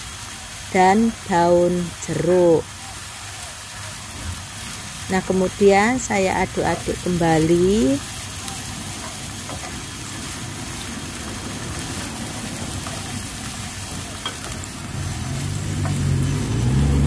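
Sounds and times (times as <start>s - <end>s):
aromatics sizzling in oil: 0.0s - 17.0s.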